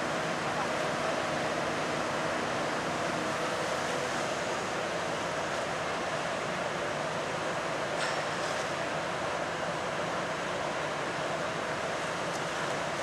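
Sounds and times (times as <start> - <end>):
crane diesel engines running: 0.0 - 13.0
harbour noise: 0.0 - 13.0.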